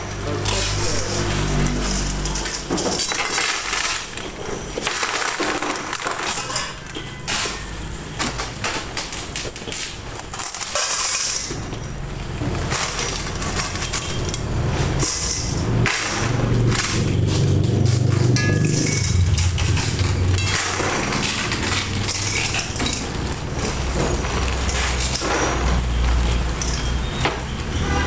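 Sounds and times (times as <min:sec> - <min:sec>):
nails clattering into steel bowls: 0:00.0 - 0:28.0.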